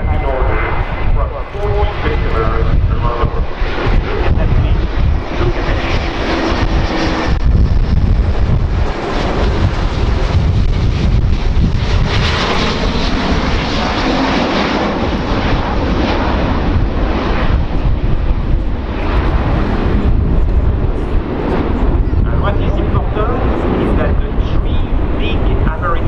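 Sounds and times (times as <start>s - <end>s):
jet airliner engines in flight: 0.0s - 26.0s.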